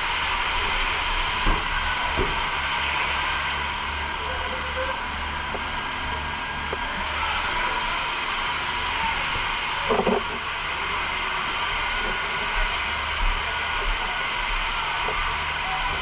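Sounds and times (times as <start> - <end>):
steady hissing rush: 0.0 - 16.0.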